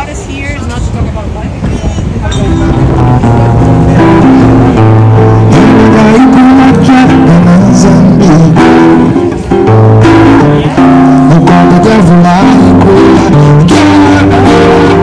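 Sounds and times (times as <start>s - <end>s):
guitar-led background music: 2.3s - 15.0s.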